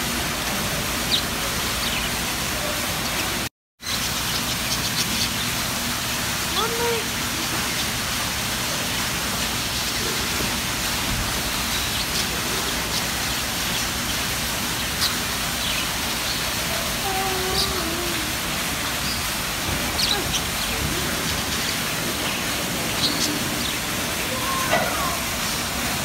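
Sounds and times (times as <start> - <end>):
water falling into a pool: 0.0 - 26.0.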